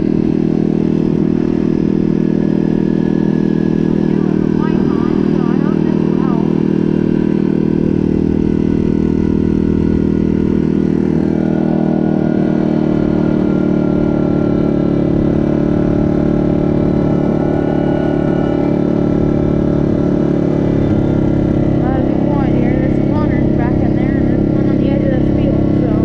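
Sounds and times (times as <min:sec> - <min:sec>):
quad engine droning steadily: 0:00.0 - 0:26.0.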